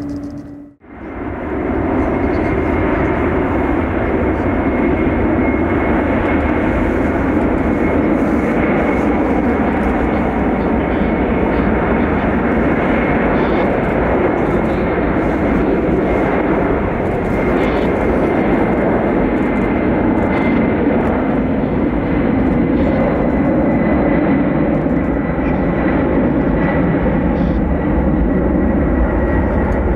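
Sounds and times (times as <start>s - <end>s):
jet engines running: 0.0s - 29.9s.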